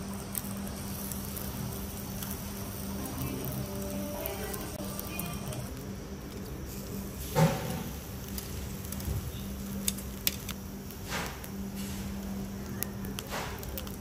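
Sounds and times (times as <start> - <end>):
sharp crackles and pops: 0.0 - 14.0
steady low hum: 0.0 - 14.0
steaks sizzling on a grill: 0.0 - 14.0.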